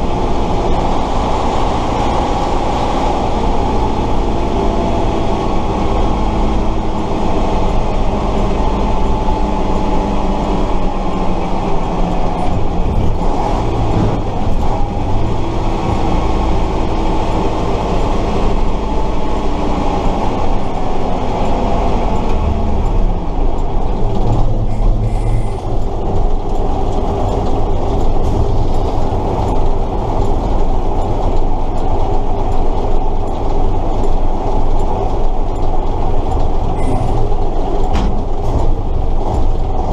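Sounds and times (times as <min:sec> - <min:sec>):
cab mechanical rattling: 0:00.0 - 0:39.9
truck diesel engine running: 0:00.0 - 0:39.9.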